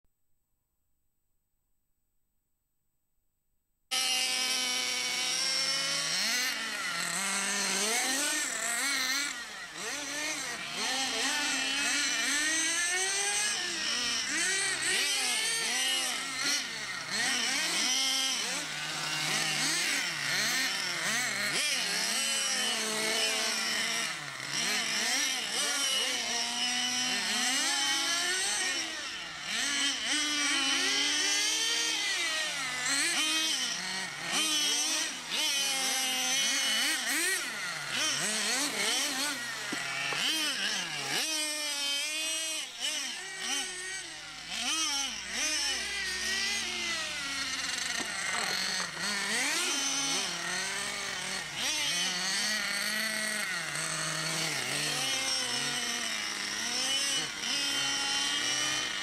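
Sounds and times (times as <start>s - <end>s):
rc car motors revving: 3.9s - 59.0s.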